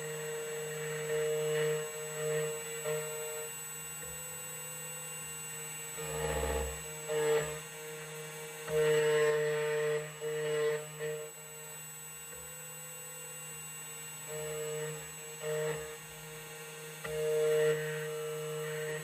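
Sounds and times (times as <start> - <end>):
key cutting machine whine: 0.0 - 19.0.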